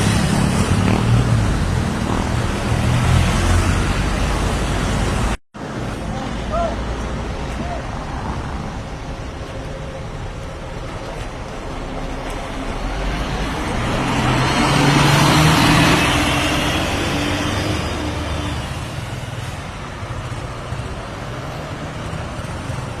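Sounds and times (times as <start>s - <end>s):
bus driving past: 0.0s - 23.0s.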